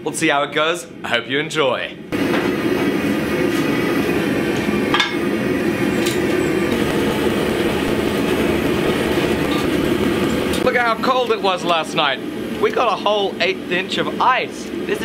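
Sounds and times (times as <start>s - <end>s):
gas forge burners roaring: 0.0s - 15.0s.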